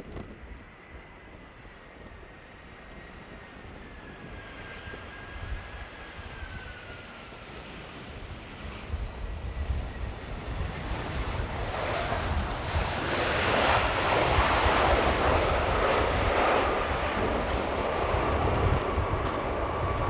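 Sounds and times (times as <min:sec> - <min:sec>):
jet engines roaring: 0:00.0 - 0:20.0
wind rumbling on microphone: 0:00.0 - 0:20.0.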